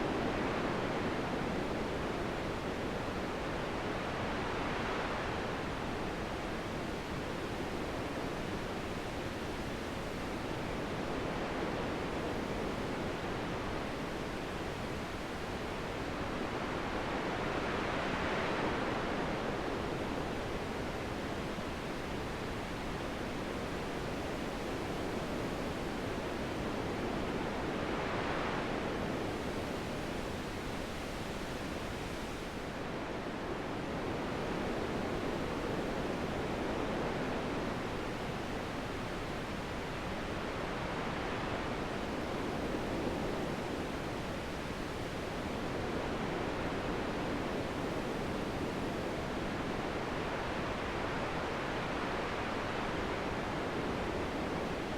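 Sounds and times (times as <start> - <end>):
wind blowing in gusts: 0.0 - 54.9.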